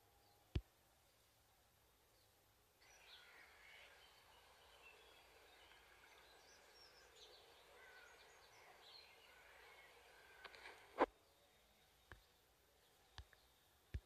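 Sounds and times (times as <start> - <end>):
bird chirps: 2.1 - 14.0.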